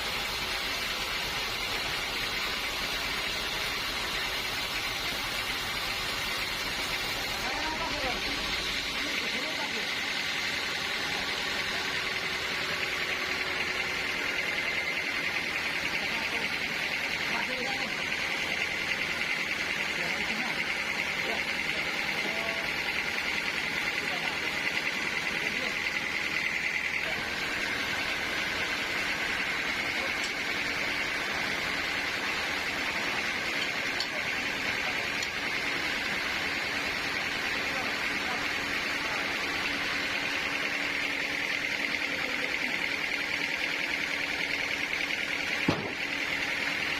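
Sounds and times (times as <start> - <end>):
saw running with high hiss: 0.0 - 46.9.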